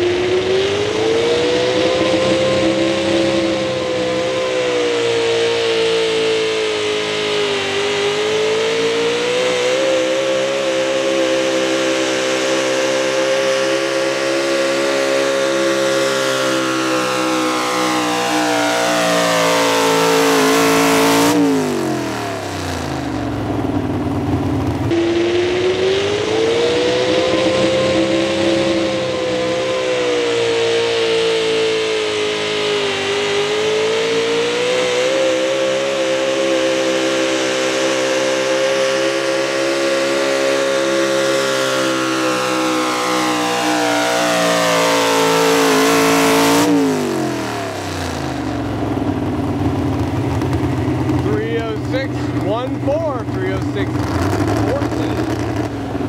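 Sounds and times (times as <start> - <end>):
truck engine under full load: 0.0 - 56.0.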